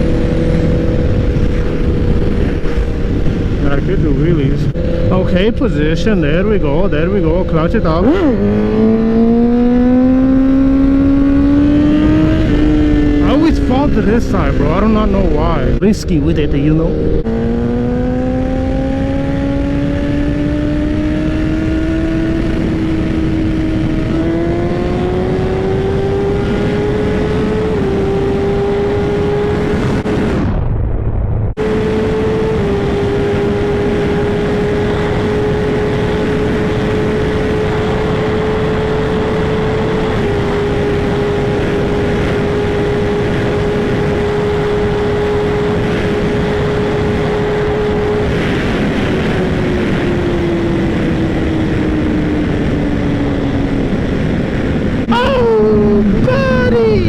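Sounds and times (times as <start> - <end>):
motorcycle engine accelerating hard: 0.0 - 57.0
wind rushing over microphone: 0.0 - 57.0.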